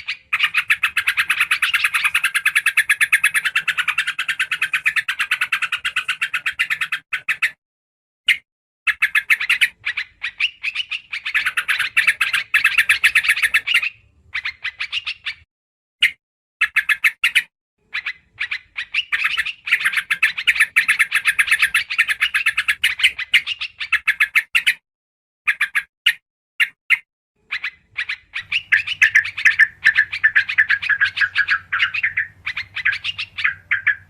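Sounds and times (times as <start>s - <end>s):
bird chattering: 0.0s - 7.6s, 8.3s - 24.8s, 25.5s - 25.9s, 27.4s - 34.0s.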